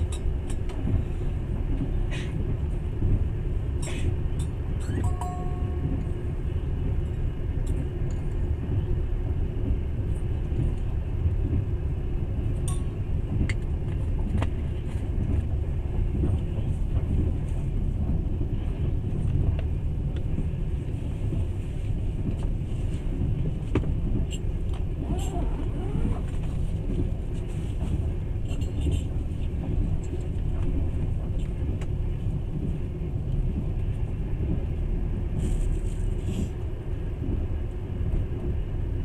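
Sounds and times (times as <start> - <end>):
train rumbling inside carriage: 0.0 - 39.0.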